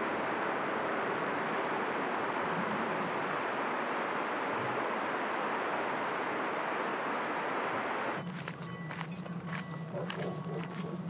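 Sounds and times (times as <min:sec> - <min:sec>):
river rushing: 0:00.0 - 0:09.5.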